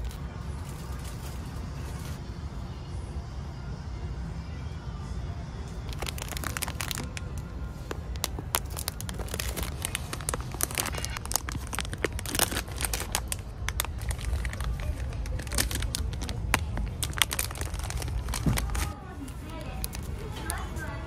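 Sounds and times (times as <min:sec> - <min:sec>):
plastic film crinkling: 0:00.0 - 0:02.2, 0:05.9 - 0:21.0.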